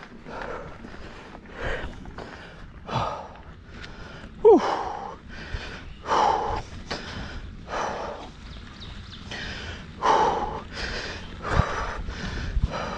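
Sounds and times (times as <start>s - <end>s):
person breathing hard: 0.0s - 8.4s, 9.3s - 12.9s.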